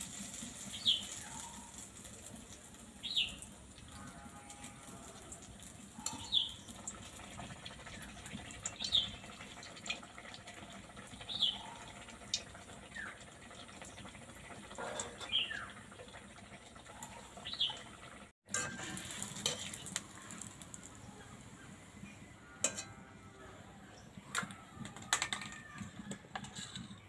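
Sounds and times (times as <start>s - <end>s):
food sizzling in oil: 0.0s - 23.2s.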